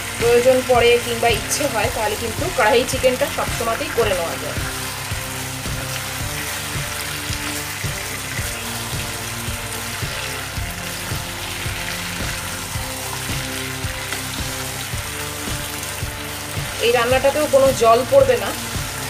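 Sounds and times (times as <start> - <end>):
background music with beat: 0.0 - 19.0
chicken sizzling in oil: 0.0 - 19.0.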